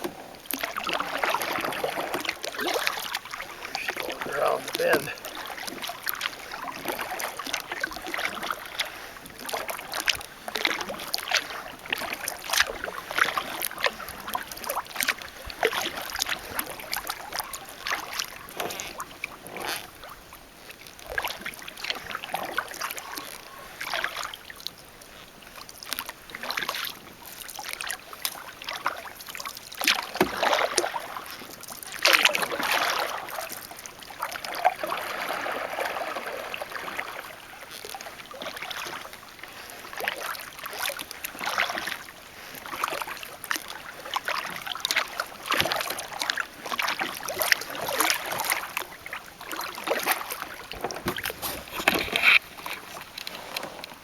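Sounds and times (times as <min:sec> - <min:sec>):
kayak paddle strokes in water: 0:00.0 - 0:54.0.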